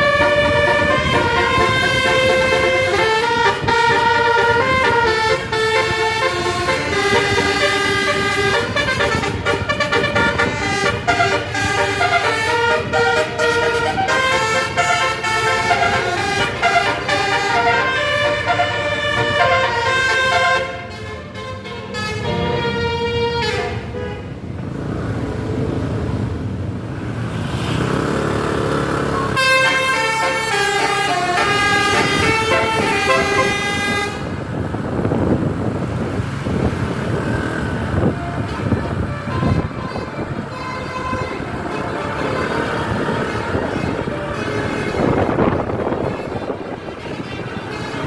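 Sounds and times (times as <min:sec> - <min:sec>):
musical multi-tone bus horns: 0:00.0 - 0:24.6, 0:29.0 - 0:48.0
bus engine noise: 0:00.0 - 0:48.0
road noise: 0:00.0 - 0:48.0.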